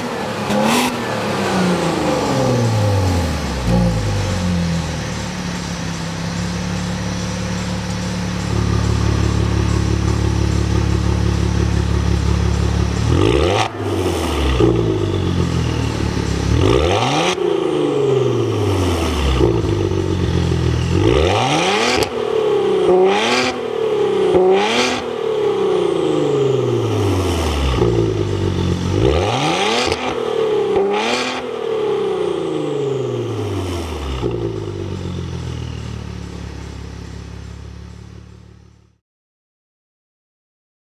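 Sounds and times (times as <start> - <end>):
car engine revving: 0.0 - 38.7
car engine idling: 0.0 - 39.0.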